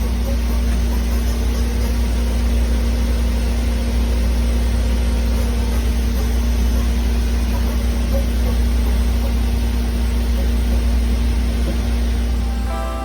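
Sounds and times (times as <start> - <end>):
lathe machine humming: 0.0 - 13.0.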